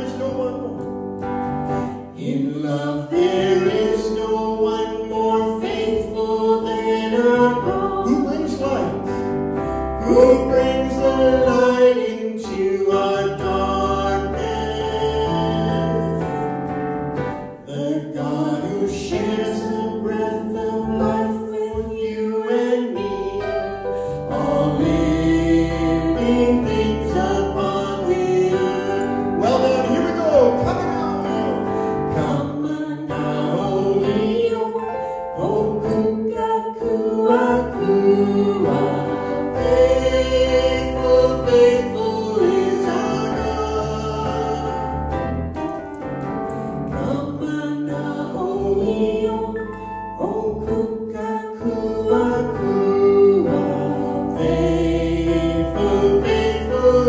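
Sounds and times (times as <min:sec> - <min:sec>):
group singing a hymn: 0:01.6 - 0:16.7, 0:17.3 - 0:45.5, 0:46.5 - 0:57.0.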